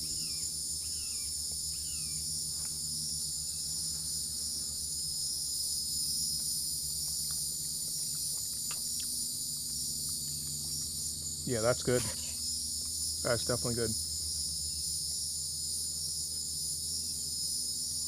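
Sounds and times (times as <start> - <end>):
insects buzzing and chirping: 0.0 - 18.0.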